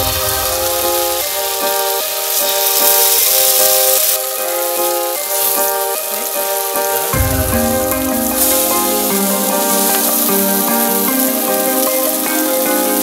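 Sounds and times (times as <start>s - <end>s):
tofu sizzling in oil: 0.0s - 13.0s.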